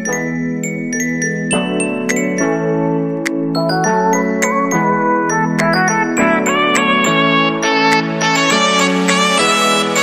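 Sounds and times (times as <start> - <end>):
melodic instrumental music: 0.0 - 10.0.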